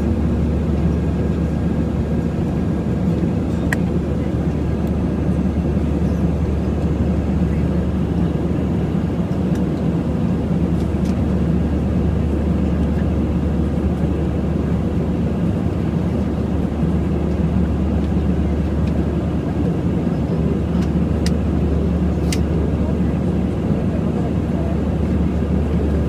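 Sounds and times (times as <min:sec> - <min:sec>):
airliner cabin roar: 0:00.0 - 0:26.0.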